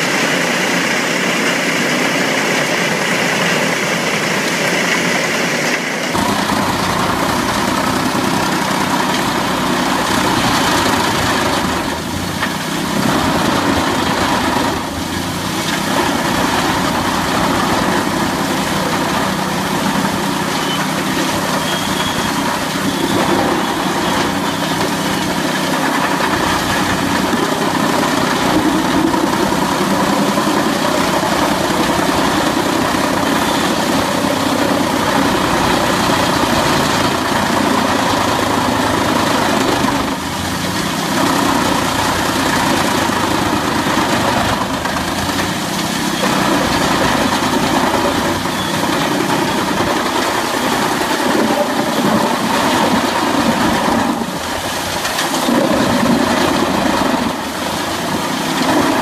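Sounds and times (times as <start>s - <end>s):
wood chipper engine droning: 0.0s - 59.0s.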